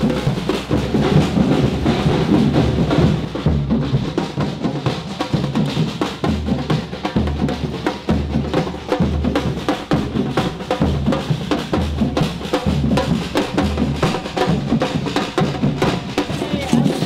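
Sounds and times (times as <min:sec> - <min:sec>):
quick drum hits: 0:00.0 - 0:17.0.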